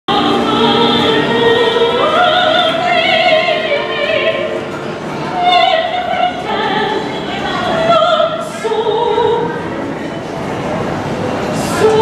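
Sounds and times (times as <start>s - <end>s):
woman singing into microphone: 0.1s - 9.6s, 11.6s - 12.0s.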